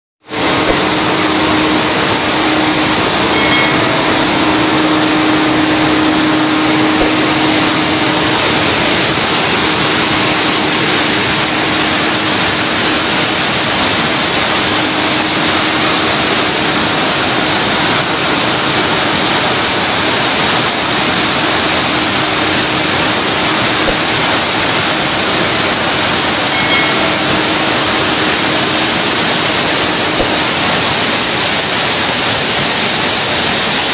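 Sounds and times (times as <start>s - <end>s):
water rushing down spillway: 0.2s - 33.9s.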